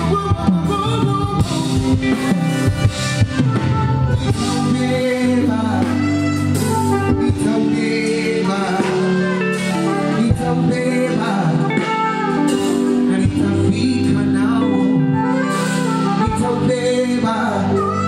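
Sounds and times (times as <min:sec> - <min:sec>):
band with guitar over pa: 0:00.0 - 0:18.0
person singing long notes: 0:00.0 - 0:18.0.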